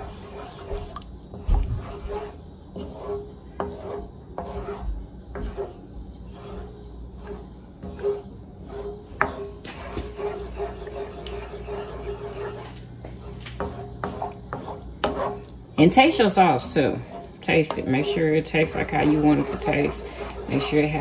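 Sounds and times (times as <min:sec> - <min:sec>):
wooden spoon scraping metal pan: 0:00.0 - 0:21.0.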